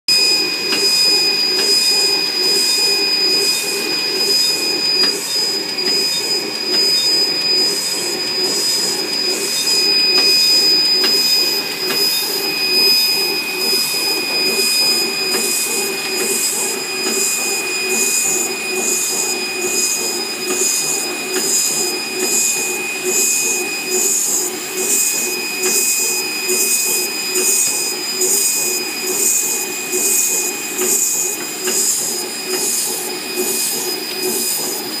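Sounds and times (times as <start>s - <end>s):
high-pitched whine: 0.1s - 35.0s
machine conveyor humming: 0.1s - 35.0s.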